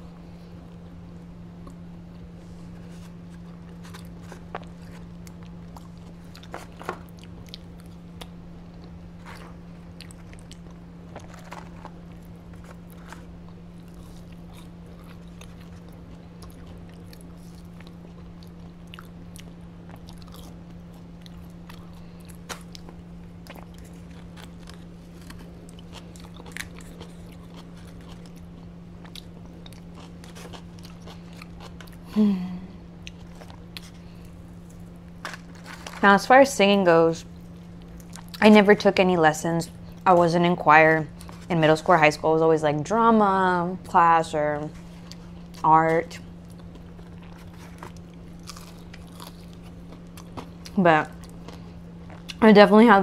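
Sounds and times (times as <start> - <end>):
low hum: 0.0 - 53.0
chewing and crunching food: 0.2 - 32.3, 32.9 - 42.0, 43.8 - 52.8.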